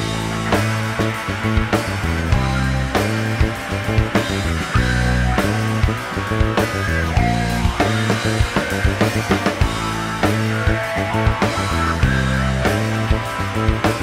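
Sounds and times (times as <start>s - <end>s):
bass line: 0.0s - 14.0s
drum kit: 0.0s - 14.0s
electric guitars: 0.0s - 14.0s.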